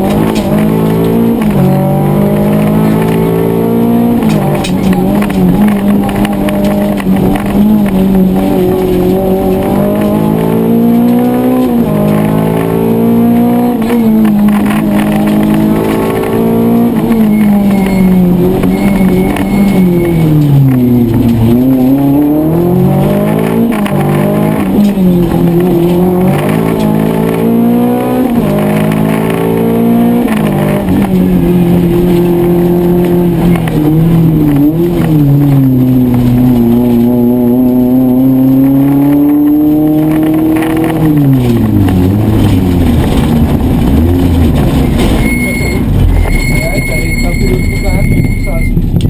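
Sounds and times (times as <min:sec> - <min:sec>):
rally car engine revving: 0:00.0 - 0:49.0.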